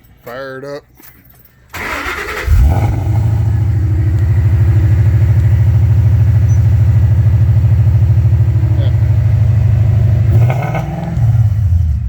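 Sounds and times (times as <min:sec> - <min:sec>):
car engine starting and idling: 0:01.7 - 0:12.0.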